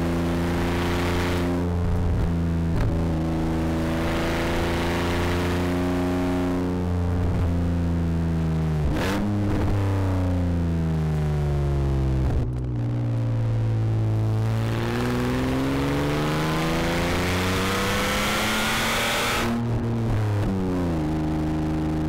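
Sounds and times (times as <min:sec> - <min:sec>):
rally car engine running hard: 0:00.0 - 0:22.0.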